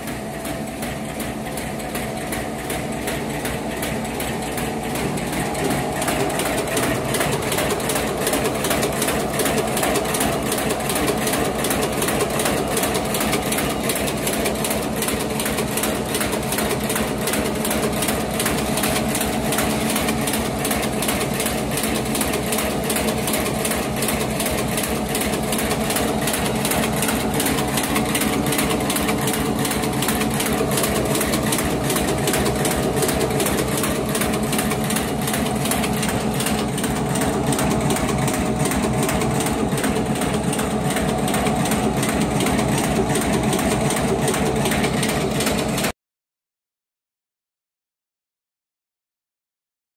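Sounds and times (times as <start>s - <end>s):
machine clattering: 0.0s - 45.9s
motor hum: 0.0s - 45.9s.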